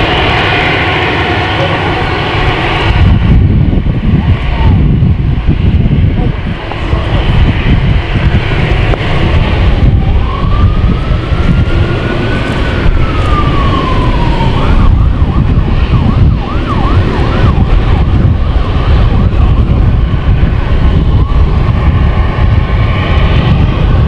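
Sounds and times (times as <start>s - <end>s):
fire truck siren wailing and yelping: 0.0s - 24.0s
heavy low rumble: 0.0s - 24.0s.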